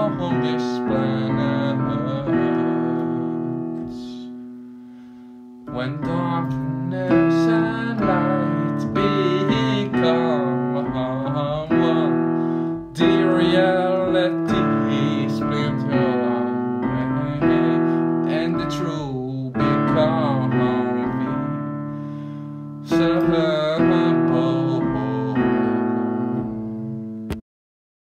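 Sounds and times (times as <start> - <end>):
slow piano chords: 0.0 - 27.4.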